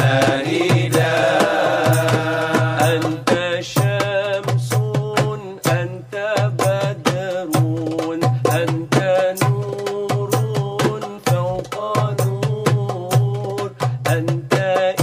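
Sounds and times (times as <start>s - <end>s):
hand drum and tambourine beat: 0.0s - 15.0s
men singing devotional chant: 0.0s - 15.0s.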